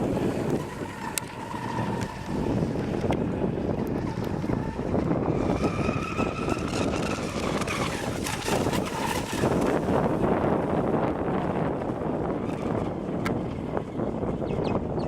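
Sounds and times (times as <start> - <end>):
model boat motor whine: 0.0 - 15.0
wind buffeting microphone: 0.0 - 15.0.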